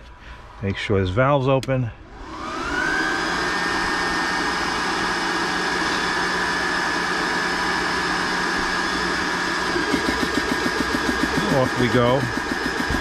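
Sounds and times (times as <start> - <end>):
air compressor running: 2.0 - 13.0.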